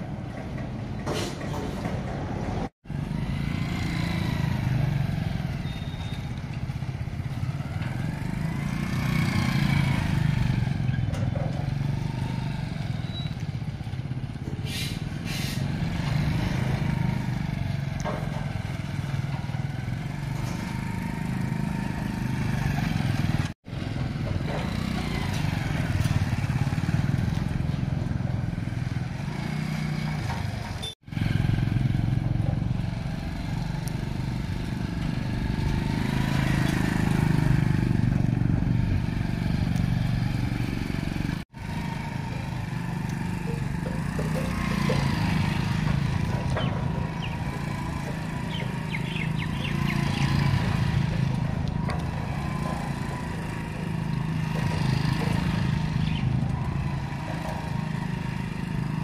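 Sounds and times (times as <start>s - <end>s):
motorcycle engine running: 2.9s - 59.0s.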